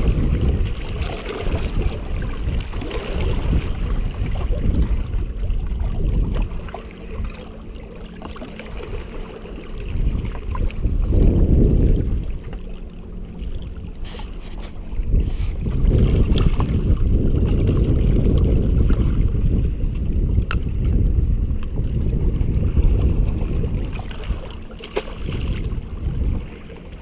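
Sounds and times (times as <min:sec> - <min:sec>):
wind buffeting microphone: 0:00.0 - 0:08.0, 0:08.6 - 0:27.0
faint low drone: 0:00.0 - 0:27.0.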